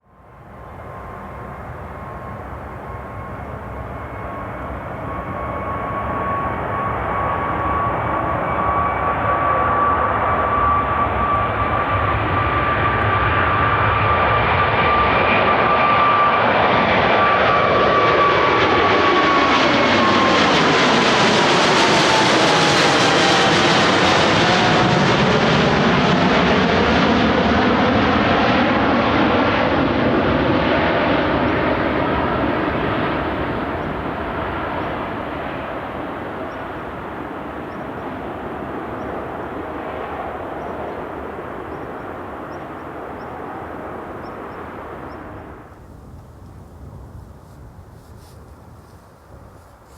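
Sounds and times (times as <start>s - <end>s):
jet airliner passing: 0.0s - 49.9s.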